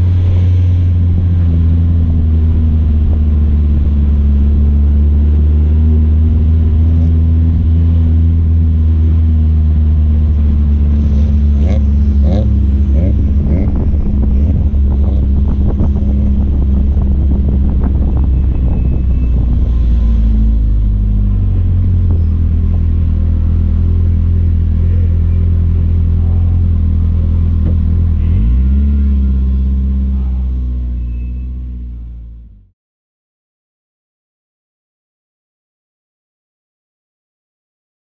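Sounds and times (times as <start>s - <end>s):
car engine at low revs: 0.0s - 32.7s.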